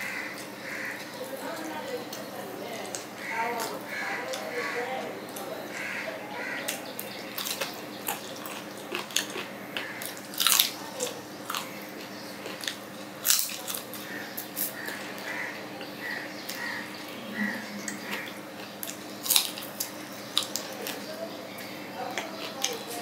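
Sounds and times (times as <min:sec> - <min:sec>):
chewing and biting chicken: 0:02.9 - 0:23.0.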